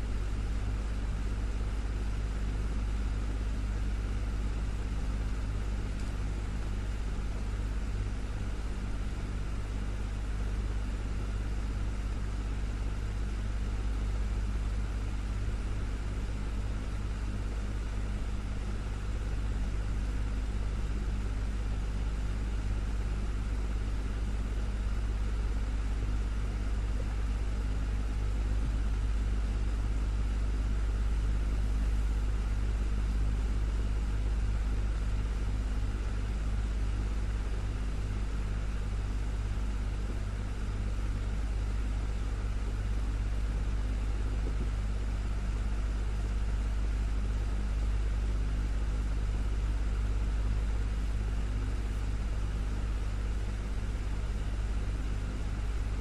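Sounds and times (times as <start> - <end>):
desktop fan running: 0.0 - 56.0.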